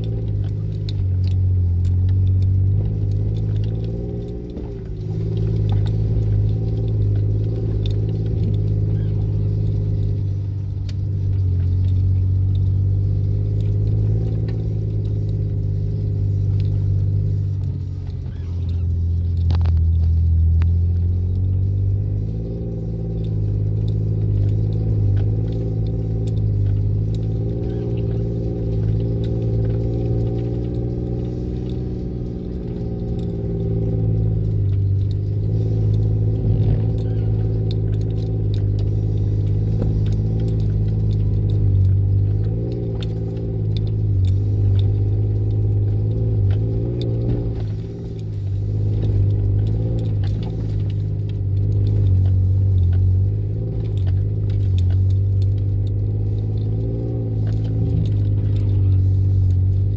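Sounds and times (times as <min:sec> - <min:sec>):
engine running at low speed: 0:00.0 - 0:59.9
loose items rattling in cab: 0:00.0 - 0:59.9.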